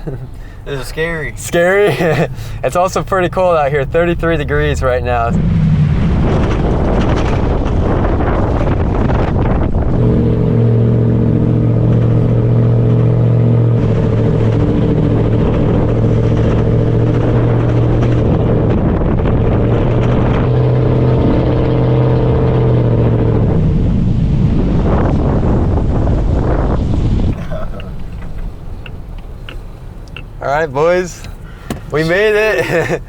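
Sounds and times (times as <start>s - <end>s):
engine running under load: 1.8s - 33.0s.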